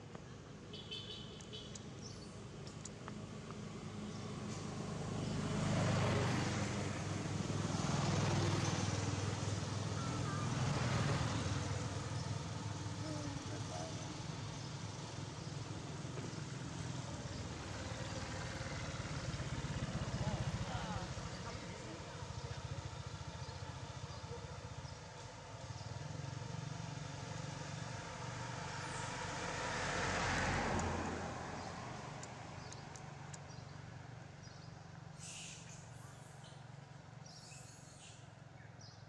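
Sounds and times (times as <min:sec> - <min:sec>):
vehicle engine passing: 0:02.3 - 0:37.4.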